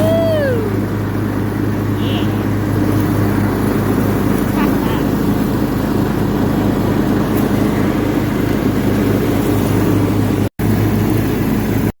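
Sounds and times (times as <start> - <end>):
lawnmower engine running: 0.0 - 11.9.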